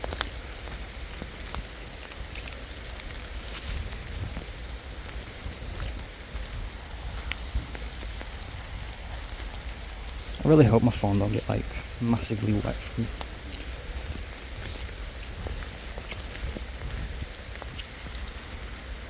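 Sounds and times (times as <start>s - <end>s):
steady rainfall: 0.0s - 19.0s.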